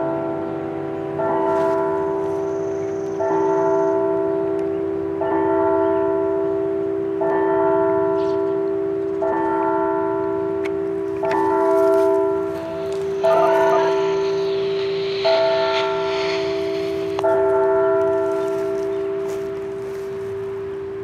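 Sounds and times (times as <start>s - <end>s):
church bell tolling: 0.0s - 21.0s.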